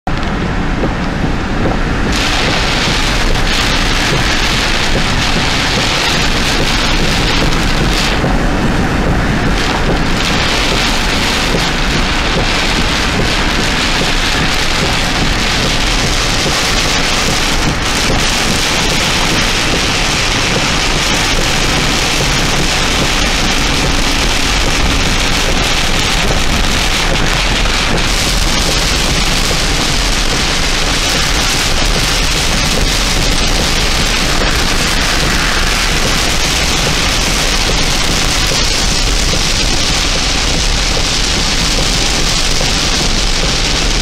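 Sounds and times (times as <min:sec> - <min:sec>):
heavy rain on car roof: 0:00.1 - 0:44.0.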